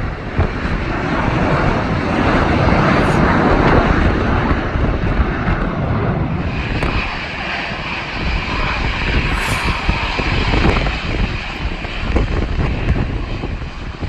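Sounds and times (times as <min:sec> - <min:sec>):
wind rumbling on microphone: 0:00.0 - 0:14.0
jet engines whining: 0:00.1 - 0:14.0.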